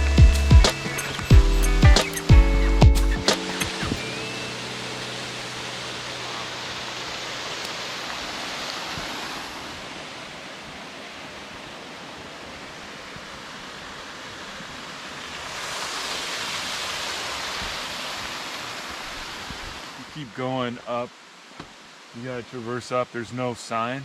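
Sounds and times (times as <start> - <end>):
small waterfall rushing: 3.3 - 24.0.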